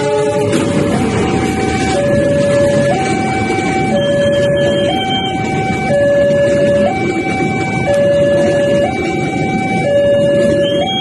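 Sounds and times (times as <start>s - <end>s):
level crossing alarm two-tone: 0.0s - 11.0s
passing train rumble: 0.0s - 11.0s.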